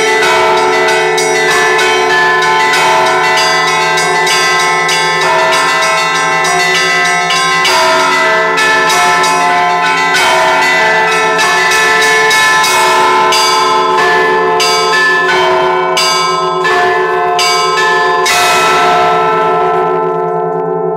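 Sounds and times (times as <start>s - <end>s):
large bell humming: 0.0s - 20.9s
small church bells striking quickly: 0.0s - 20.9s.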